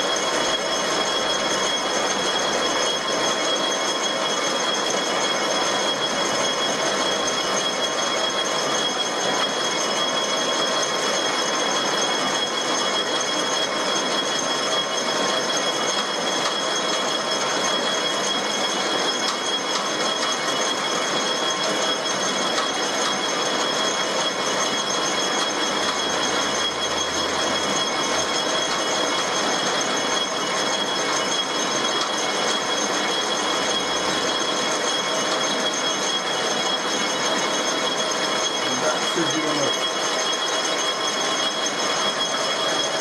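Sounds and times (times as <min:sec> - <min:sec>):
metal lathe running with whine: 0:00.0 - 0:43.0.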